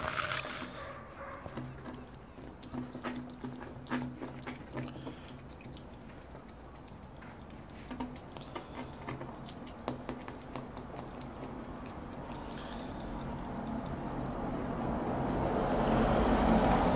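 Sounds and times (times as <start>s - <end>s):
ferret chewing: 0.0s - 14.6s.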